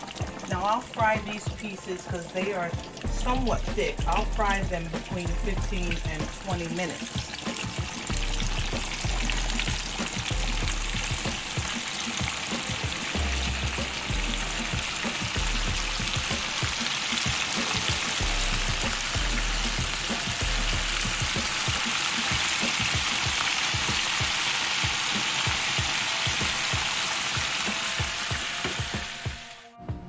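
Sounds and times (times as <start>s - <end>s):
oil deep-frying crackling: 0.0s - 29.6s.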